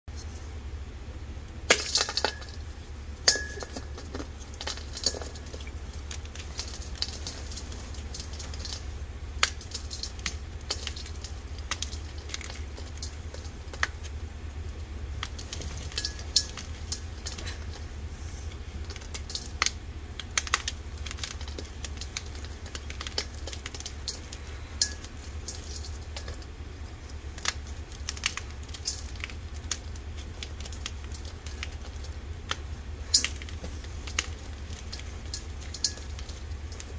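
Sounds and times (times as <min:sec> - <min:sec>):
low hum: 0:00.0 - 0:36.9.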